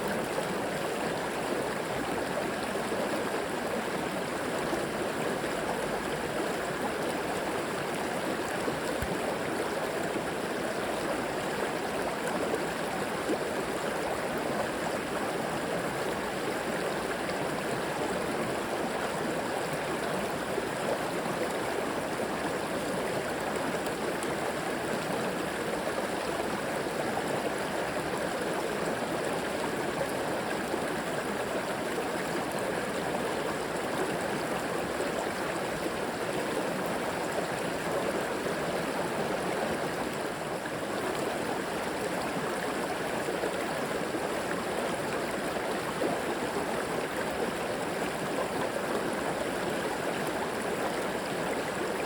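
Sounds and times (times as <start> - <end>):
river water flowing over rocks: 0.0 - 52.0.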